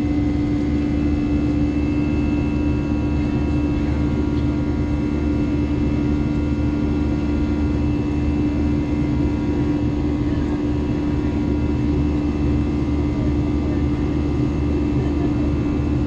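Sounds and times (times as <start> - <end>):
jet engine drone in cabin: 0.0 - 16.0.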